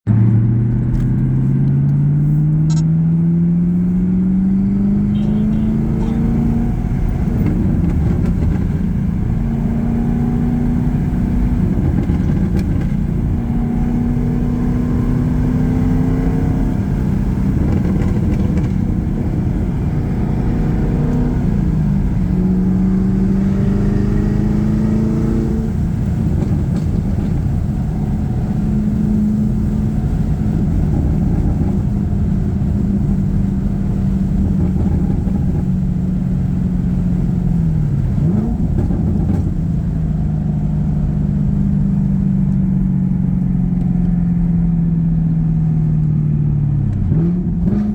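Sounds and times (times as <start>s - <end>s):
car exhaust revving: 0.1s - 47.9s.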